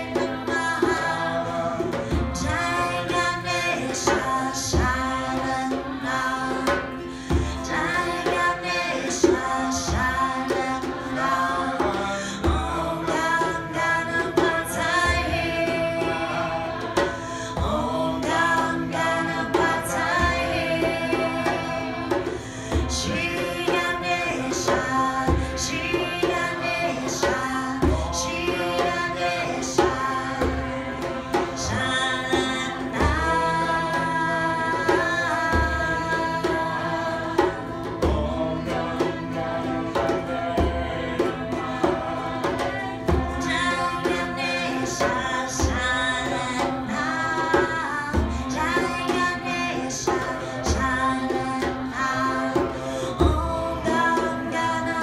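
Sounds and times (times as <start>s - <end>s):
frame drum beats: 0.0s - 55.0s
harmonium drone: 0.0s - 55.0s
woman singing: 0.0s - 55.0s.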